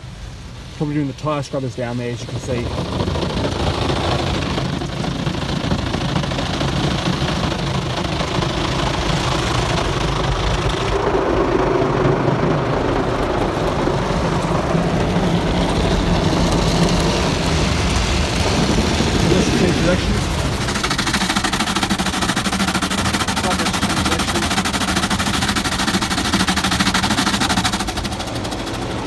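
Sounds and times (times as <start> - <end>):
car wash machinery rumble and hiss: 0.0 - 29.0
low hum: 1.5 - 29.0.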